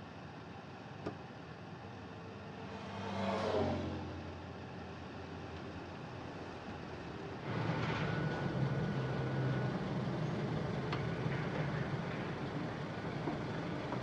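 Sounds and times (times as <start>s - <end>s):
vehicle rumble with low hum: 0.0s - 14.0s.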